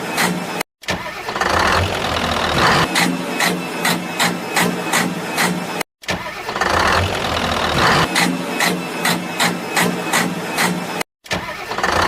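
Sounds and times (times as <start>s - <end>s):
vehicle engine idling with clatter: 0.1s - 12.0s.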